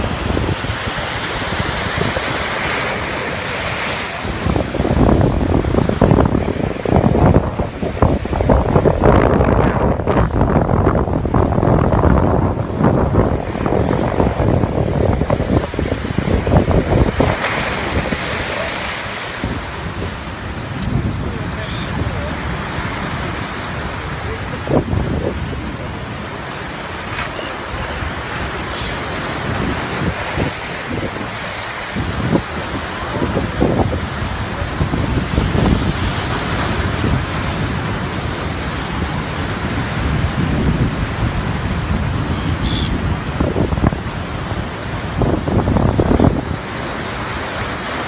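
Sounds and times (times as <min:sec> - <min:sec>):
sea surf breaking: 0:00.0 - 0:48.0
wind buffeting microphone: 0:00.0 - 0:48.0.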